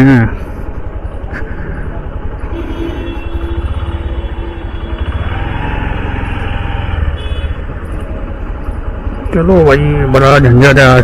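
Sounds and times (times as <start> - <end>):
motorcycle engine running: 0.0 - 11.0
road and street noise: 0.0 - 11.0.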